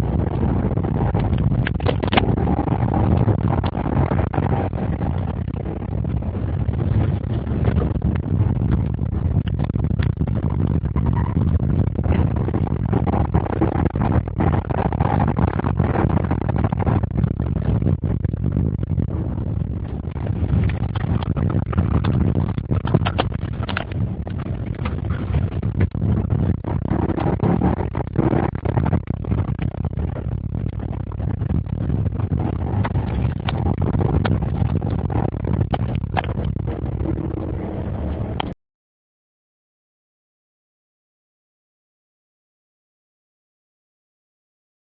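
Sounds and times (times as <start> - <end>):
car engine low rumble: 0.0 - 38.6
road and wind noise: 0.0 - 38.6.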